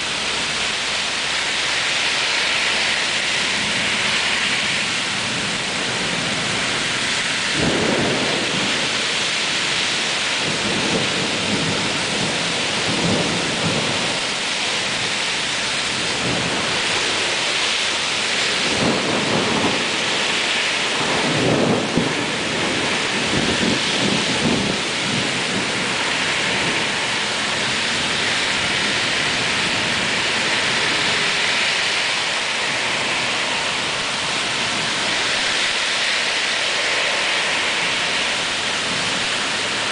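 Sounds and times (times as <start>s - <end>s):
car tyres on wet street: 0.0s - 39.9s
heavy rain pouring: 0.0s - 39.9s
thunder rumbling: 0.0s - 39.9s.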